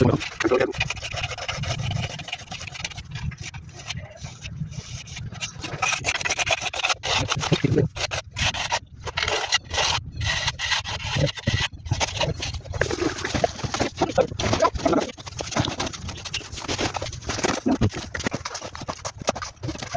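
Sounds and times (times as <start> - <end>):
hand tool scraping cement plaster: 0.0 - 19.9.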